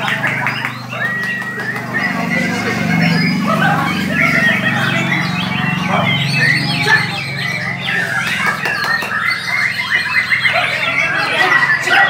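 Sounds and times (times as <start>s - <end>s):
murmur of crowd voices: 0.0s - 12.0s
songbirds chirping and trilling: 0.0s - 12.0s.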